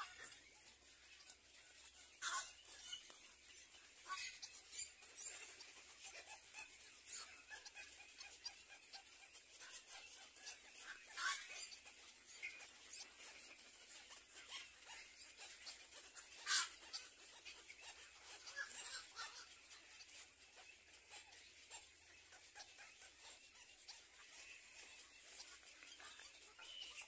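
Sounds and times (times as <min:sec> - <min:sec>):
faint bird chick chirps: 0:00.0 - 0:27.0
sharp bird calls: 0:00.0 - 0:27.0.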